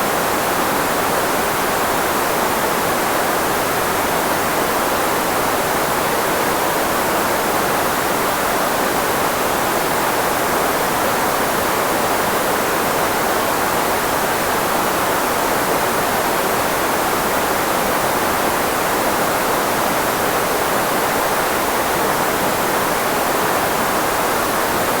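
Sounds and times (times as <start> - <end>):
filtered white noise hiss: 0.0 - 25.0.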